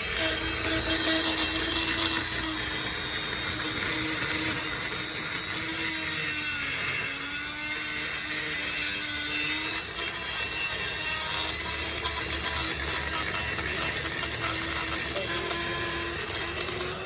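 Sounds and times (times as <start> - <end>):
workshop machine humming: 0.0 - 17.0.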